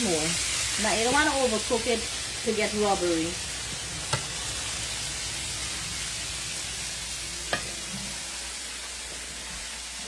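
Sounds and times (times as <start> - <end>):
shrimp sizzling in oil: 0.0 - 10.0.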